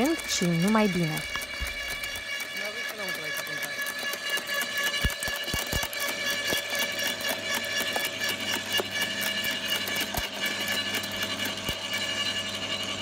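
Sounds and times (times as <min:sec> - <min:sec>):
garden shredder motor whining: 0:00.0 - 0:13.0.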